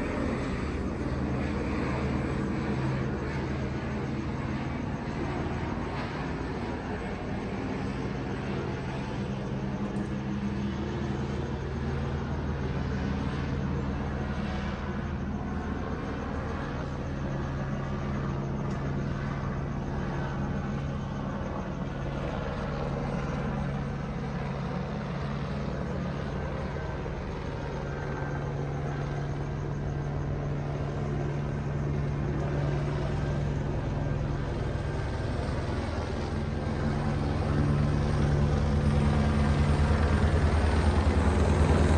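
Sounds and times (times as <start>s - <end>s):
helicopter rotor drone: 0.0s - 41.9s.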